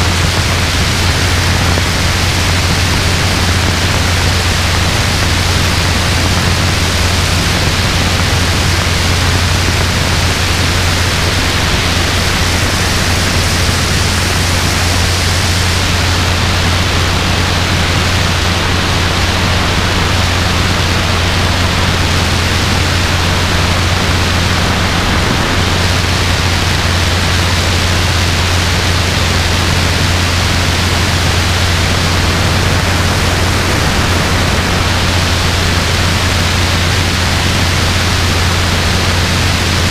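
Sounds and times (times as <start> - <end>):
wind rushing: 0.0 - 38.0
helicopter engine and rotor drone: 0.0 - 39.9.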